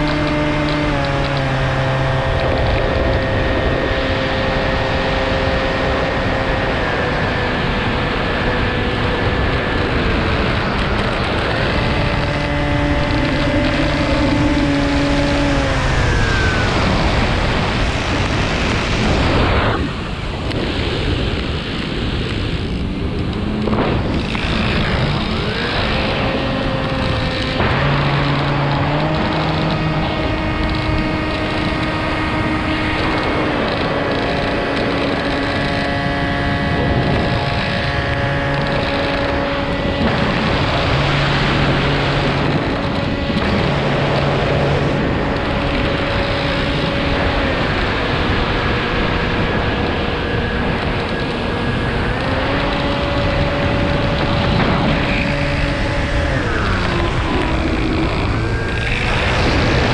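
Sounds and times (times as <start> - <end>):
model aircraft propeller drone: 0.0 - 59.9
wind on microphone: 0.0 - 59.9.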